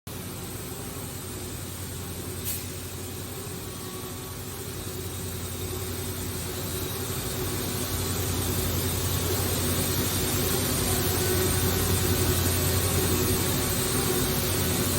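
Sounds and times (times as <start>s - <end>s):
machine mechanical hum: 0.1s - 14.9s
faint high whine: 0.2s - 14.9s.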